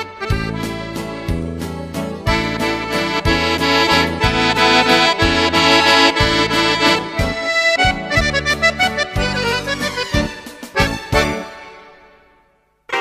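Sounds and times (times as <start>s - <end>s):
instrumental music with held chords: 0.0s - 13.0s.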